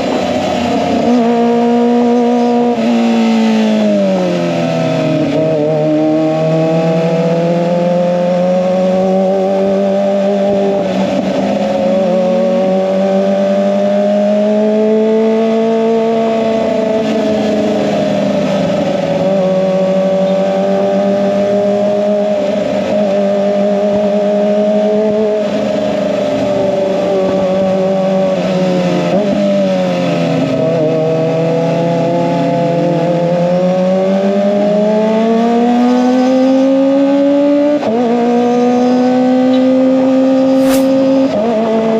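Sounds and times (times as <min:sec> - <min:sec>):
motorcycle engine at mid revs: 0:00.0 - 0:41.9.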